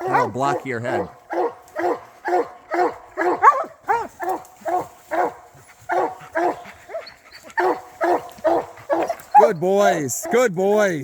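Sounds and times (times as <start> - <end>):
hounds barking: 0.0 - 10.9.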